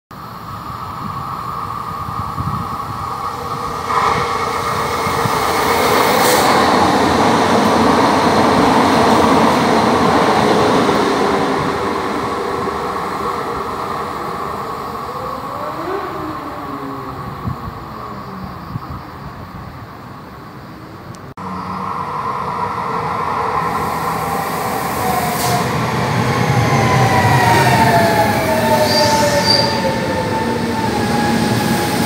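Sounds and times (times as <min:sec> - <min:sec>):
train rumbling and whining: 0:00.2 - 0:32.0.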